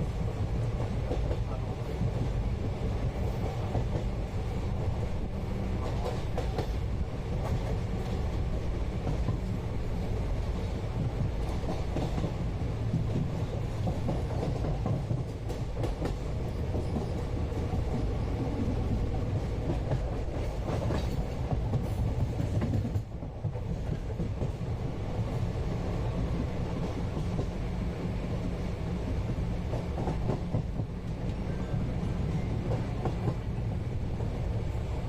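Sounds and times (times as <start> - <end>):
train rumble inside coach: 0.0 - 35.0.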